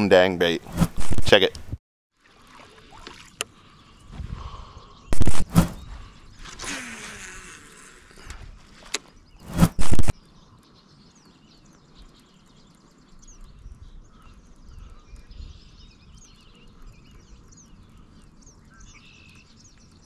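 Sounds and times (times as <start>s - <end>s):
small birds chirping: 2.4s - 20.0s.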